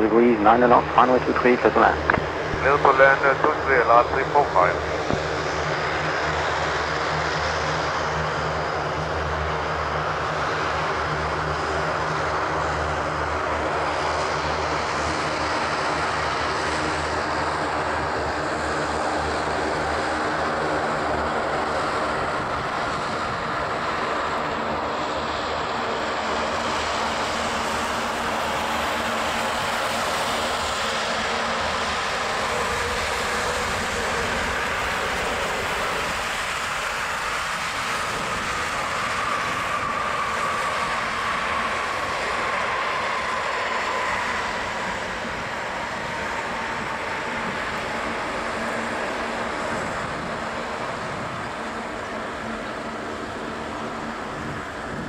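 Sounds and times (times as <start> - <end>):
jet engine roar: 0.0 - 55.0.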